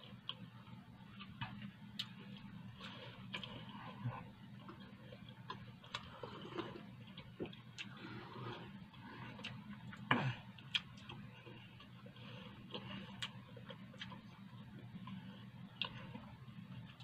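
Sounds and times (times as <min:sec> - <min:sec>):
low steady hum: 0:00.0 - 0:17.0
person chewing food: 0:00.0 - 0:17.0.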